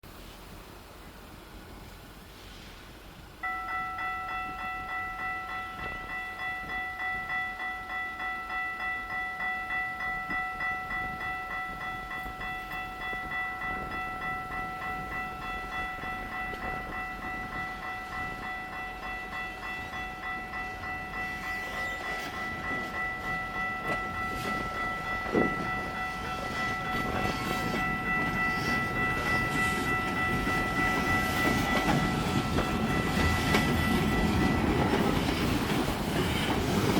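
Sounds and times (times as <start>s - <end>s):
freight train rumble: 0.0s - 36.9s
level-crossing warning bell: 3.3s - 36.9s.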